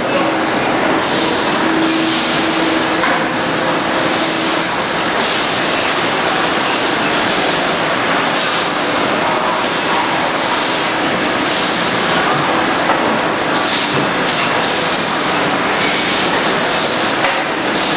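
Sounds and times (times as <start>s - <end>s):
factory machinery din: 0.0s - 17.9s.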